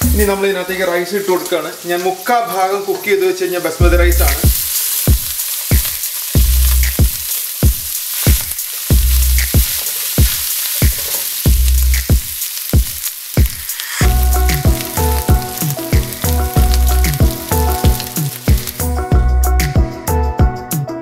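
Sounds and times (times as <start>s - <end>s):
background music with steady beat: 0.0s - 0.4s, 3.8s - 21.0s
rice sizzling in a wok: 0.0s - 20.0s.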